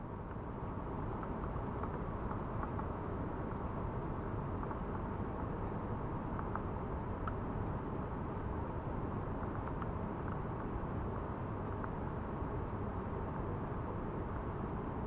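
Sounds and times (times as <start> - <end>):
faint ticks and patter: 0.0 - 15.0.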